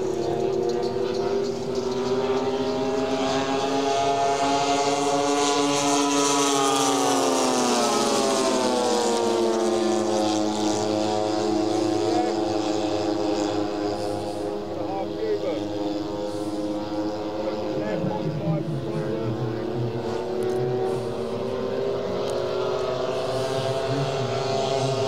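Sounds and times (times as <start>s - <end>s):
model plane engines flying past: 0.0s - 25.0s.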